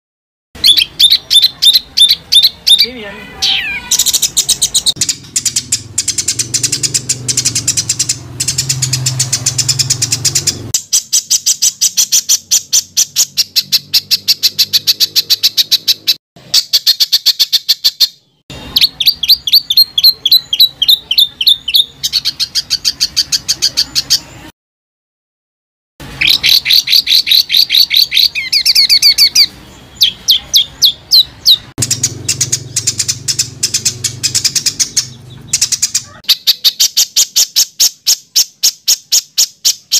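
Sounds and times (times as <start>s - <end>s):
songbird chirping rapidly: 0.6s - 24.5s, 26.0s - 39.9s.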